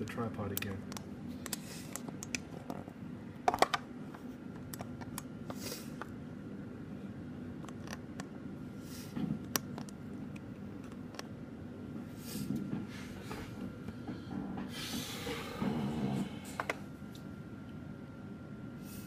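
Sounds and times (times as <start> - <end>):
desktop computer hum: 0.0 - 19.0.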